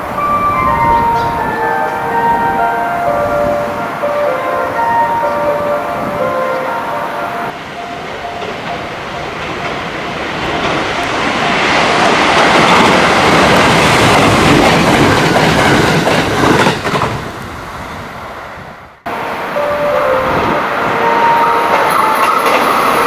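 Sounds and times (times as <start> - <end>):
train passing on track: 0.0 - 23.0.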